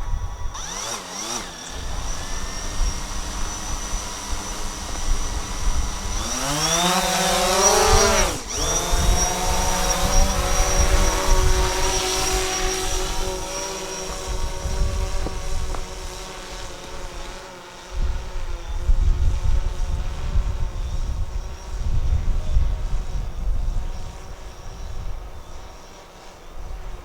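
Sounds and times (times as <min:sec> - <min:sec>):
wind rumble on microphone: 0:00.0 - 0:00.8, 0:01.7 - 0:27.0
drone propellers whining: 0:00.0 - 0:27.0.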